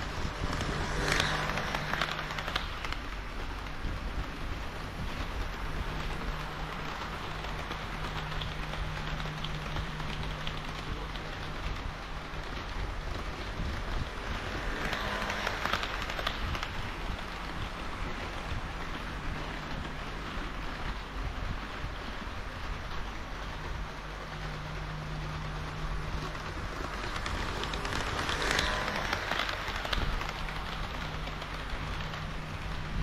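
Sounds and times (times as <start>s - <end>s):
model train motor hum: 0.0s - 33.0s
wheels clicking over rail joints: 0.0s - 33.0s.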